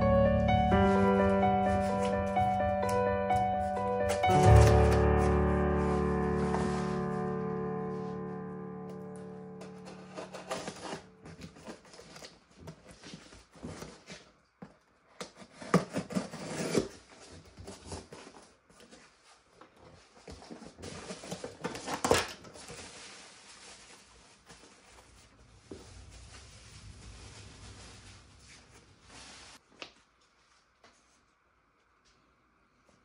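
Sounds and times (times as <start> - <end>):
plastic and paper rustling: 0.3 - 8.3, 9.0 - 31.2.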